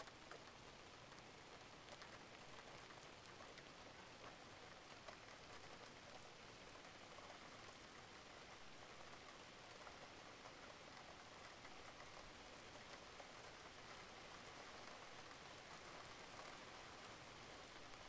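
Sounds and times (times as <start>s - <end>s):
faint steady rain: 0.0s - 18.0s
raindrop ticks: 0.0s - 18.0s.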